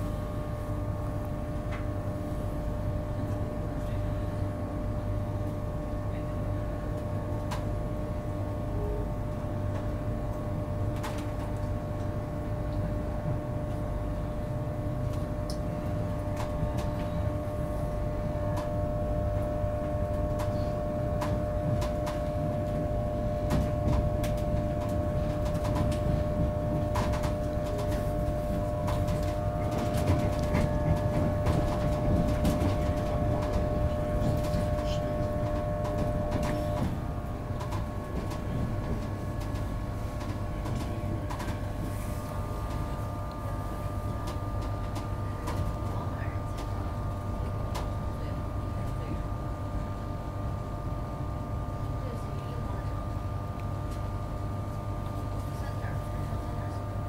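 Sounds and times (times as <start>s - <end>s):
train carriage rumble and hum: 0.0s - 57.0s.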